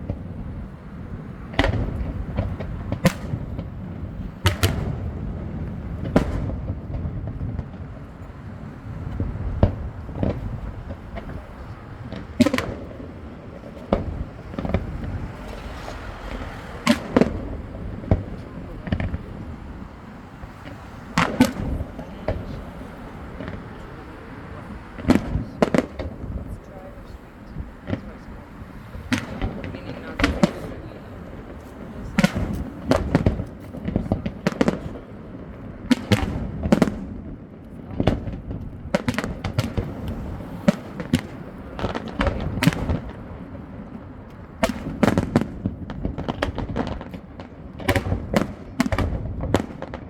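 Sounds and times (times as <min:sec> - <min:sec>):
fireworks banging: 0:00.0 - 0:50.0.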